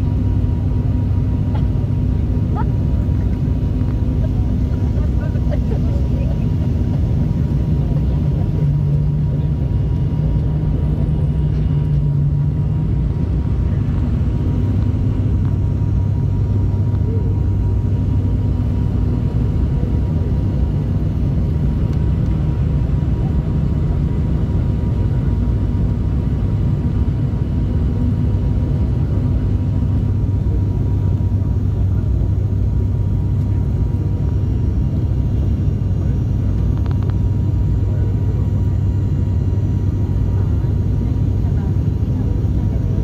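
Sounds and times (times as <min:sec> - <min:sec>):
faint steady whine: 0:00.0 - 0:43.0
turboprop engine drone in cabin: 0:00.0 - 0:43.0.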